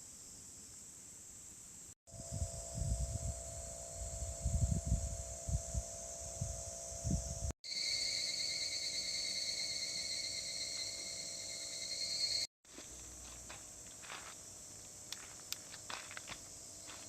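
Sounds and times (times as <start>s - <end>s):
faint insect hum: 0.0s - 17.0s
insects chirring: 0.0s - 17.0s.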